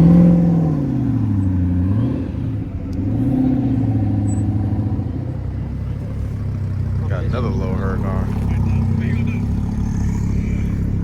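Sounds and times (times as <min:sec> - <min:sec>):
sports car engine revving: 0:00.0 - 0:11.0.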